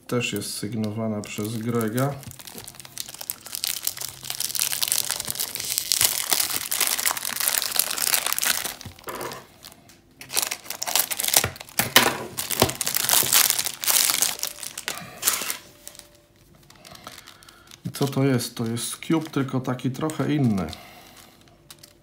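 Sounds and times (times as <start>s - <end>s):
plastic film crinkling: 0.1s - 22.0s.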